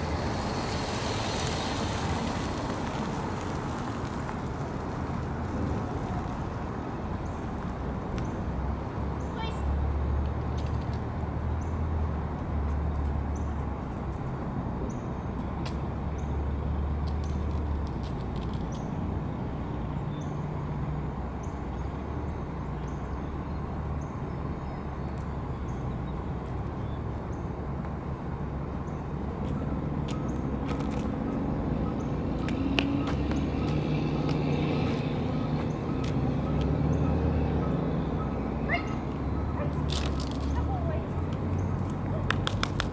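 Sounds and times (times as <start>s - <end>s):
road traffic rumble: 0.0s - 42.9s
vehicle approaching: 0.0s - 42.9s.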